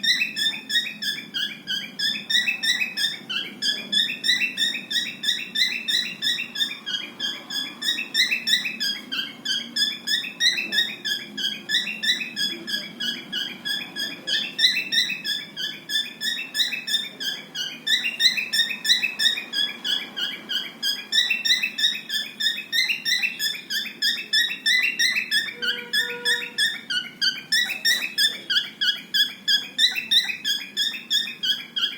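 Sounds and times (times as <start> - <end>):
cockatiels chirping: 0.0 - 31.9.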